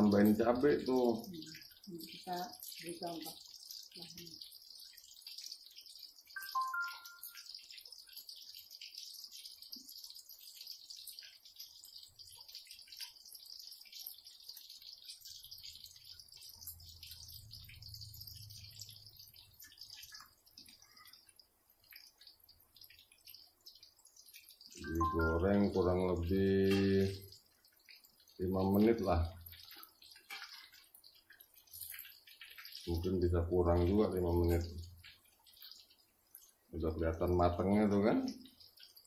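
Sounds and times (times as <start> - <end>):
fritters sizzling in hot oil: 0.0 - 39.0.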